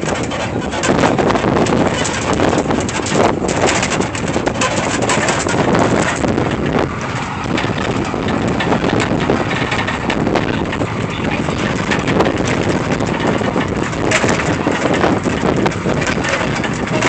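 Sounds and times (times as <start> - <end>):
knocks and rattles: 0.0 - 17.0
trolley engine and road noise: 0.0 - 17.0
wind buffeting microphone: 0.0 - 17.0.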